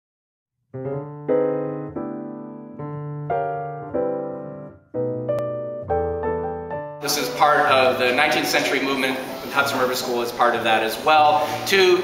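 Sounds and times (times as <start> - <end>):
piano chords ringing: 0.7 - 12.0.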